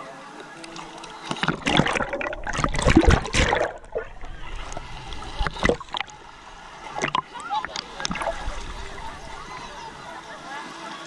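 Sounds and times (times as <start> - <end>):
seawater splashing against camera: 0.6 - 9.5.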